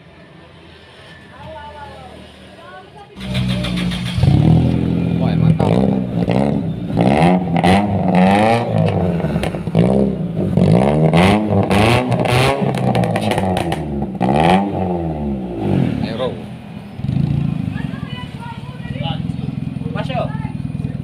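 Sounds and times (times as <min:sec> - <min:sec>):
car engine revving: 0:03.2 - 0:21.0.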